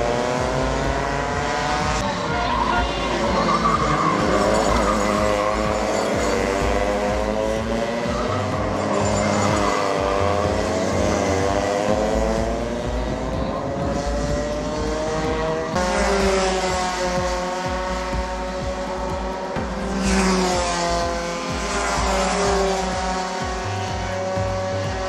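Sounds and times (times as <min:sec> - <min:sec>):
racing engine revving: 0:00.0 - 0:25.0.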